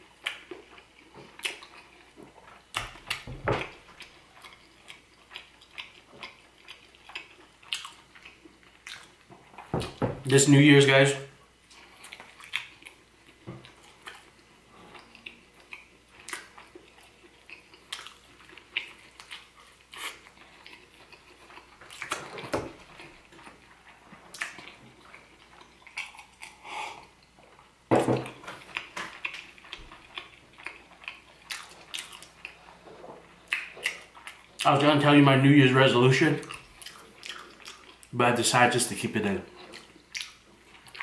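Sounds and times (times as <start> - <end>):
chewing with soft crunches: 0.0 - 9.7, 11.5 - 34.9, 36.2 - 38.2, 39.2 - 41.0.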